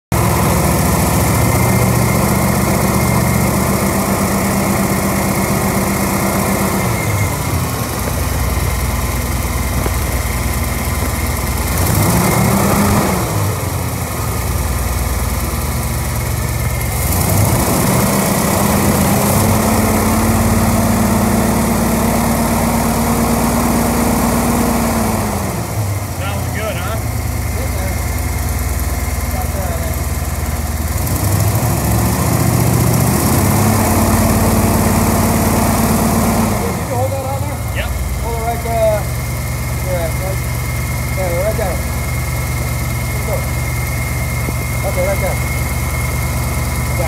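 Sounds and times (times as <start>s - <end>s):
engine revving and idling: 0.1s - 47.0s.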